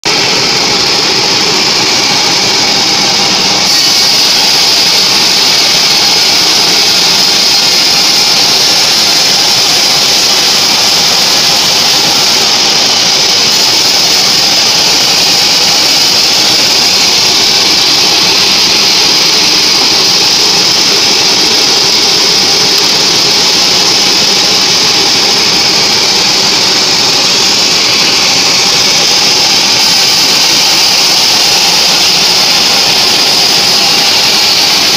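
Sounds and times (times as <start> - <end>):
band saw whining through log: 0.0 - 34.9.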